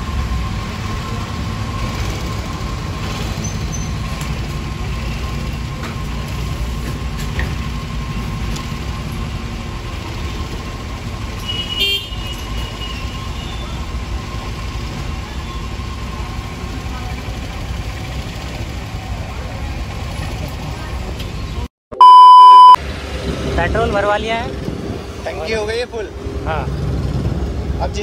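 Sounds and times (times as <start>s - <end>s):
traffic engines rumbling: 0.0s - 28.0s.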